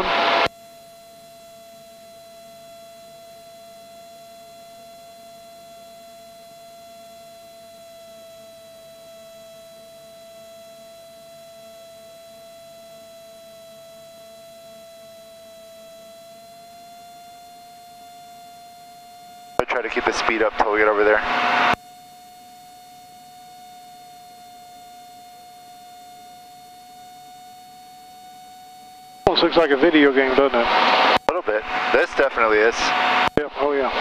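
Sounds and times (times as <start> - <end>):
electrical whine on intercom: 0.0 - 34.0.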